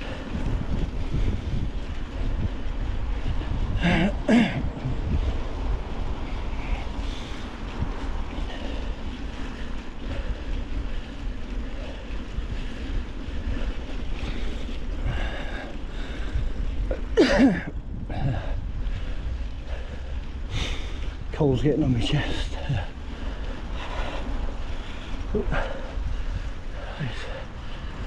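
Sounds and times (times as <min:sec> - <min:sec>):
bike tyres rolling on trail: 0:00.0 - 0:28.0
wind buffeting microphone: 0:00.0 - 0:28.0.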